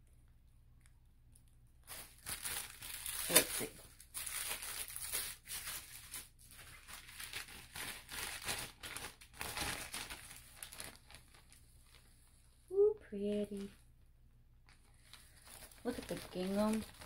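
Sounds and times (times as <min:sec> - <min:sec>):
plastic packaging crinkling: 0:01.4 - 0:13.8, 0:14.6 - 0:17.0.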